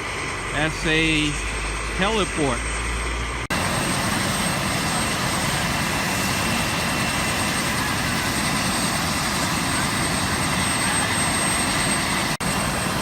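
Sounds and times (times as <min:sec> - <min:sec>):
helicopter turbine and rotor noise: 0:00.0 - 0:13.0.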